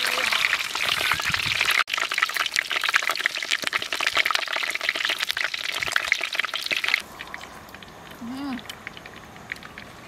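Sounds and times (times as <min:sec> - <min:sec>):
hot oil sizzling and crackling: 0:00.0 - 0:10.0.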